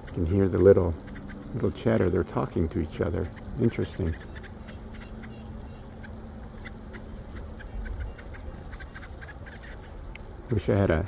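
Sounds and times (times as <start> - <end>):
small birds chipping: 0.0 - 11.0.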